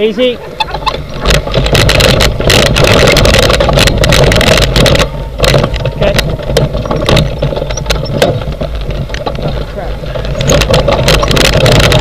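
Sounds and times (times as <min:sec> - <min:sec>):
rig wheels rumbling over dirt trail: 0:00.0 - 0:12.0.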